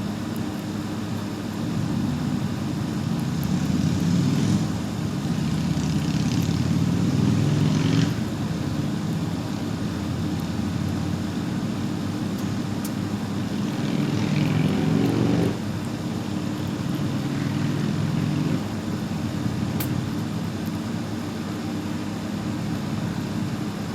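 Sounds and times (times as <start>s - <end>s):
vehicle engine humming: 0.0s - 23.9s.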